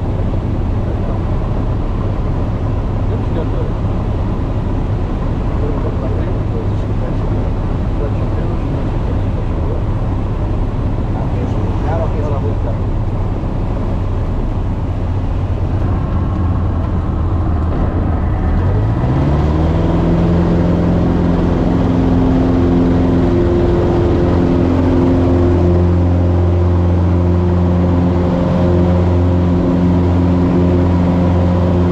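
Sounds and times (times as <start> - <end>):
aircraft engine drone: 0.0 - 31.9.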